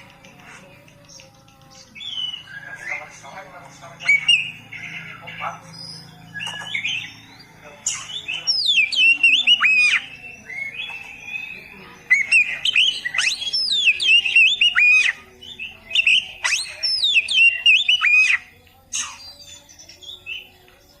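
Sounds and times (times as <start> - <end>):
magpie-robin singing: 0.0 - 21.0.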